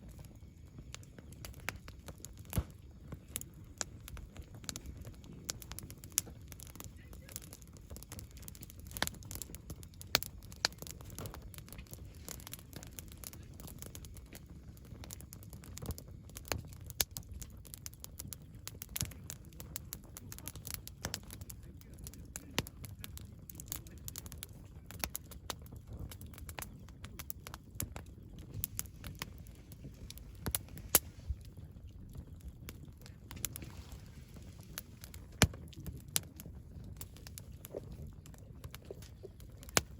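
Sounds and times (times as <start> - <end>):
campfire crackling and popping: 0.0 - 39.9
low steady rumble: 0.0 - 39.9.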